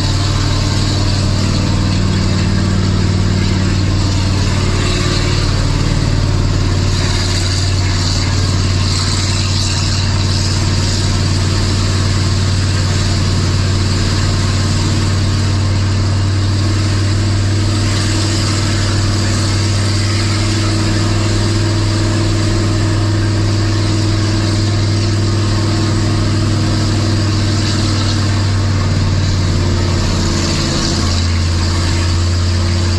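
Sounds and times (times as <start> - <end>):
truck diesel engine running: 0.0 - 32.9.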